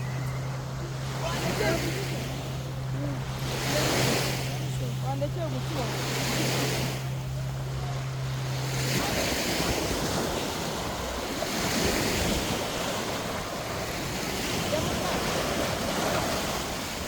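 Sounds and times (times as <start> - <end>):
low hum: 0.0 - 17.0
water noise: 0.0 - 17.0.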